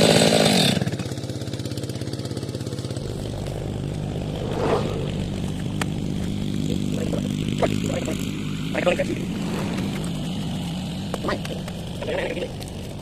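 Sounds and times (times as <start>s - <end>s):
chainsaw cutting and idling: 0.0s - 4.1s, 5.2s - 13.0s.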